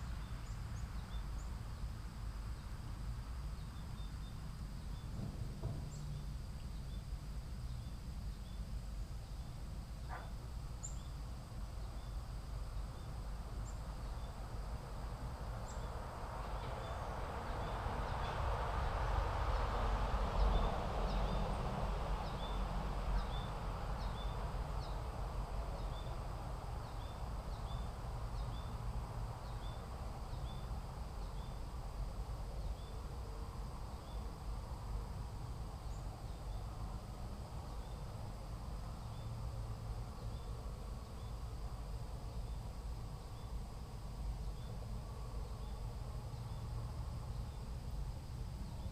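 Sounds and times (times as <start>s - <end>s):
high insect hum: 0.0s - 48.9s.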